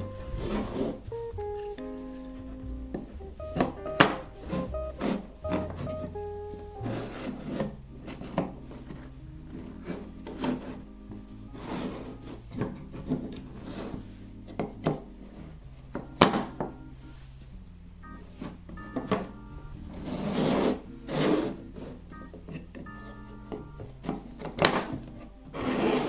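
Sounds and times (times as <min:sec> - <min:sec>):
wood scraping on wood: 0:00.0 - 0:16.4, 0:19.8 - 0:26.0
soft background music: 0:00.0 - 0:26.0.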